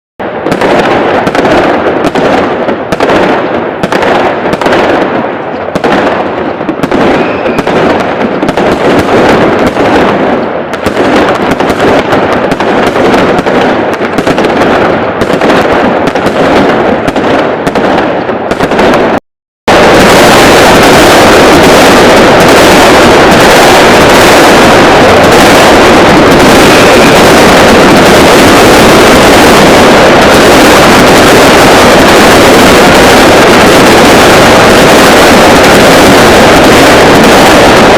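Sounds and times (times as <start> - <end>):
fireworks bangs and crackles: 0.2 - 37.9.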